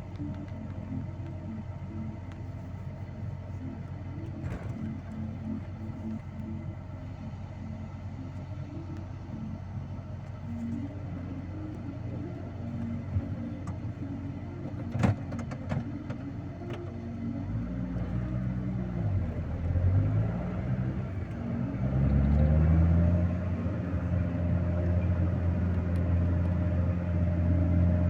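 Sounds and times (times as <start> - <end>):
vehicle engine under load: 0.0 - 28.0.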